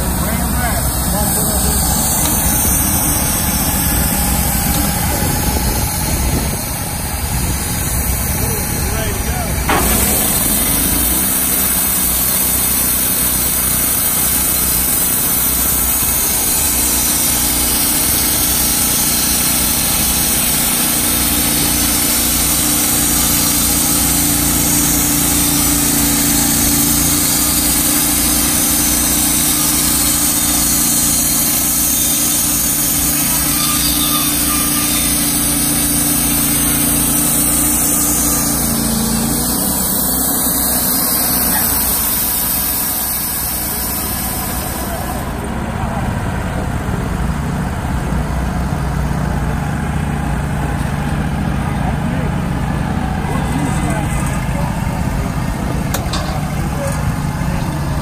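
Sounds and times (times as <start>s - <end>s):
band sawmill cutting log: 0.0s - 58.0s.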